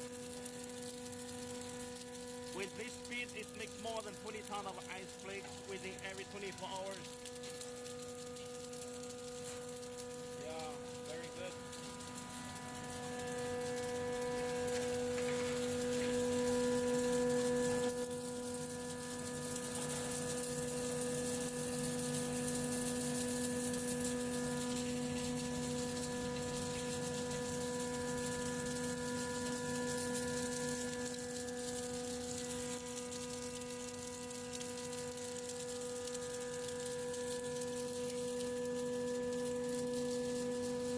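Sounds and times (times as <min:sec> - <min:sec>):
ice machine humming: 0:00.0 - 0:40.9.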